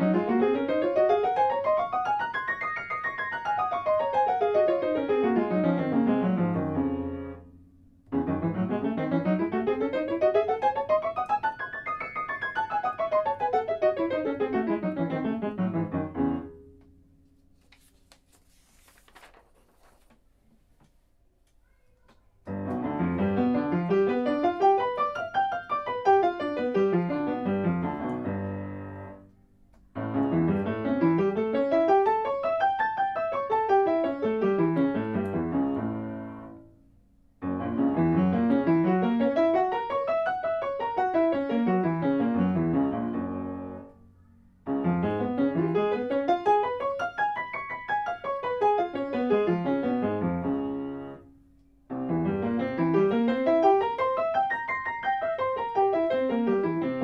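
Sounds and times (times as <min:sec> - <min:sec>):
piano scale exercises: 0:00.0 - 0:19.3, 0:21.6 - 0:57.0.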